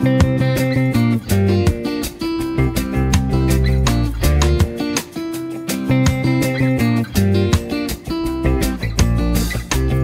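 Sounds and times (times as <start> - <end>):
bass line: 0.0 - 4.9, 5.9 - 10.0
plucked guitar notes: 0.0 - 10.0.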